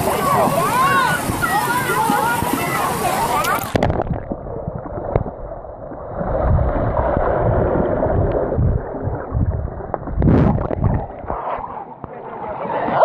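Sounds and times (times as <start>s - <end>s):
underwater rumbling and bubbling: 0.0s - 13.0s
water splashing: 0.0s - 13.0s.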